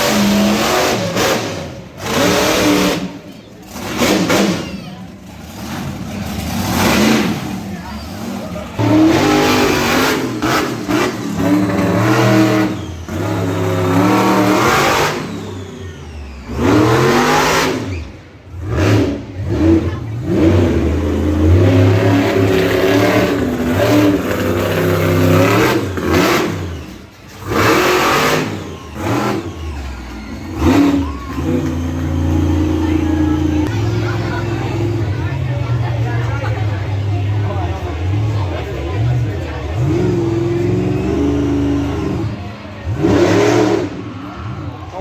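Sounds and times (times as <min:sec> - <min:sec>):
monster truck engine revving: 0:00.0 - 0:45.0.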